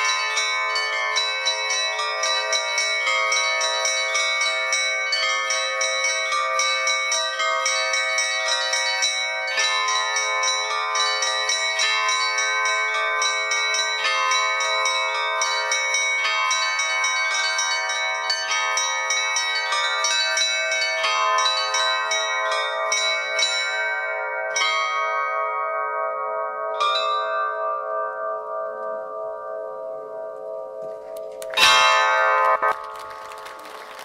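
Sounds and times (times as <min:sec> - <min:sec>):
church bells ringing: 0:00.0 - 0:33.6.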